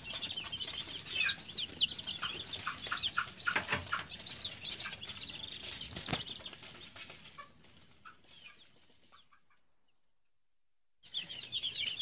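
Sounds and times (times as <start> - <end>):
chicks peeping: 0.0 - 9.9, 11.0 - 12.0.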